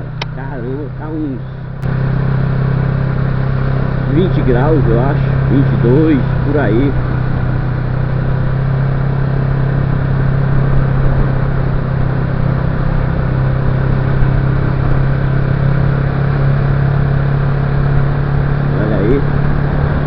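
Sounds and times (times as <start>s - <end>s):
motorcycle engine cruising: 0.0s - 20.0s
road noise: 0.0s - 20.0s
rushing wind: 0.0s - 20.0s.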